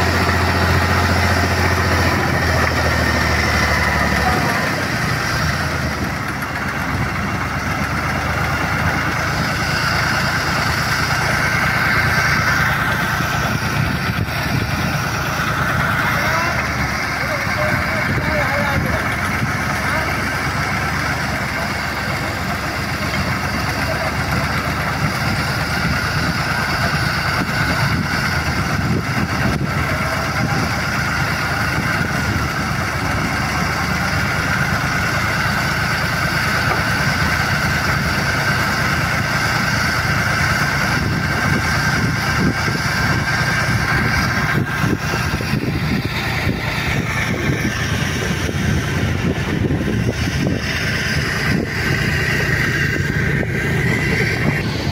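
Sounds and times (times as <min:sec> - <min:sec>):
tractor engine running: 0:00.0 - 0:54.9
winch high whine: 0:00.0 - 0:54.9.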